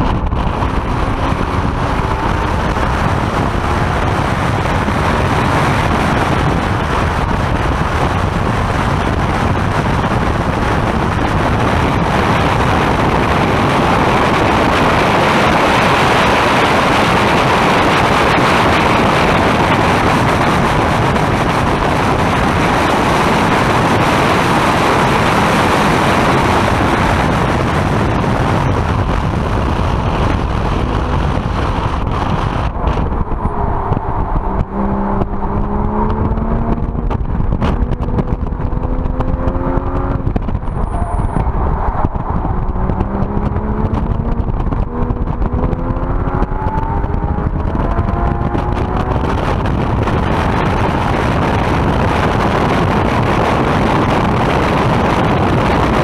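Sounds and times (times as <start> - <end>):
car engine accelerating: 0.0 - 56.0
wind and road noise: 0.0 - 56.0.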